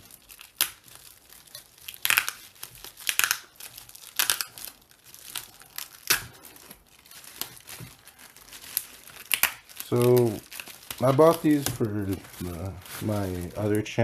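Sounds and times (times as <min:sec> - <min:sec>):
tape tearing: 0:00.0 - 0:13.8
packaging wrap crinkling: 0:00.0 - 0:14.0.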